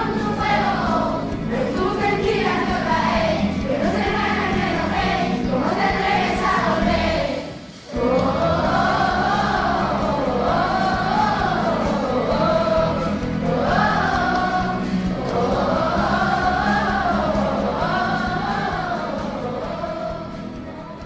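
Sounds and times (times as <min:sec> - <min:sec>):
steady musical accompaniment: 0:00.0 - 0:21.0
voices singing a slow song: 0:00.0 - 0:21.0.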